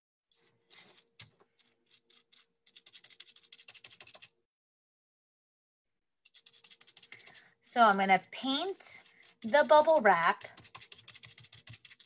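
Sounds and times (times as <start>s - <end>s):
paintbrush strokes on bubble wrap: 0.3s - 4.3s, 6.2s - 12.0s.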